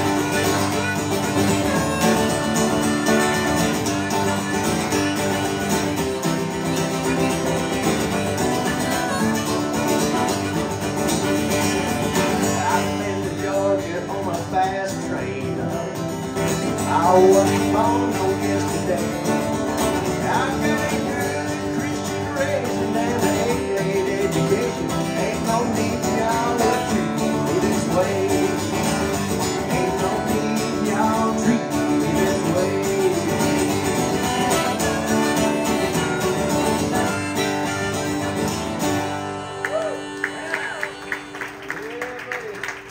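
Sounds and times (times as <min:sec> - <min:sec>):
harmonica melody: 0:00.0 - 0:42.0
acoustic guitar strumming: 0:00.0 - 0:42.9.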